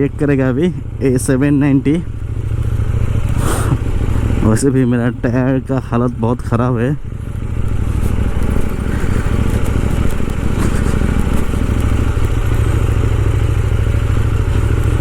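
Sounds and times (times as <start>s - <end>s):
light clattering over bumps: 0.0s - 15.0s
motorcycle engine running: 0.0s - 15.0s.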